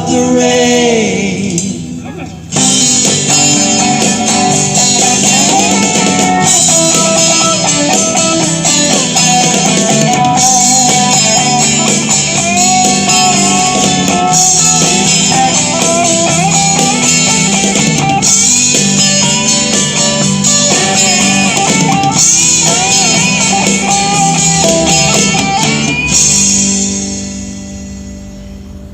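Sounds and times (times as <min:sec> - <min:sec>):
lead guitar melody: 0:00.0 - 0:28.9
strummed guitar: 0:00.0 - 0:28.9
steady beat: 0:01.4 - 0:27.9.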